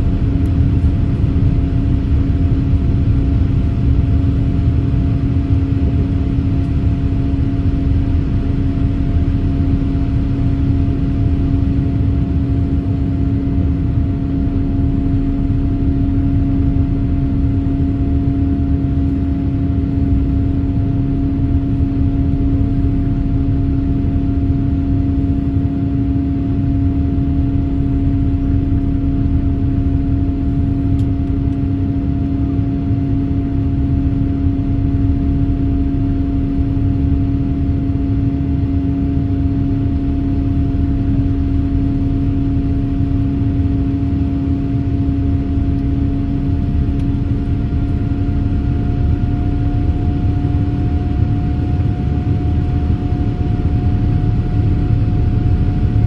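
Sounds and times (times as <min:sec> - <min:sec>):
aircraft engine and airflow rumble: 0:00.0 - 0:56.0
constant cabin hum: 0:00.0 - 0:56.0.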